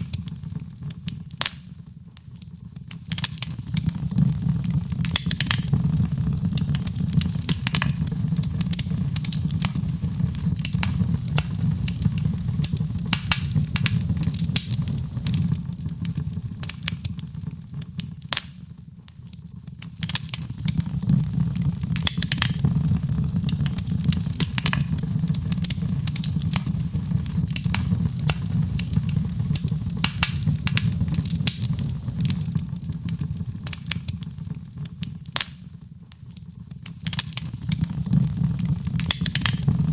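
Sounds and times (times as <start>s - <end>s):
fire low rumble: 0.0s - 39.9s
wood fire crackling and popping: 0.0s - 39.9s.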